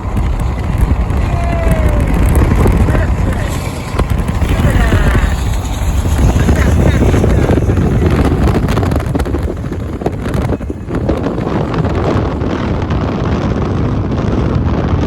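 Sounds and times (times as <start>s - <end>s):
freight train rolling past: 0.0s - 15.0s
wind buffeting microphone: 0.0s - 15.0s.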